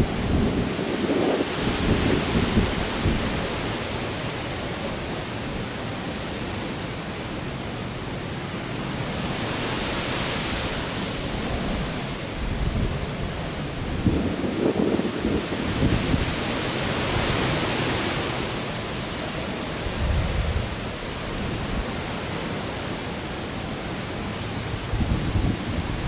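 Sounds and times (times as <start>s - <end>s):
wind buffeting microphone: 0.0s - 5.8s, 9.2s - 18.8s, 19.4s - 22.8s, 23.8s - 26.0s
steady rushing wind noise: 0.0s - 26.0s.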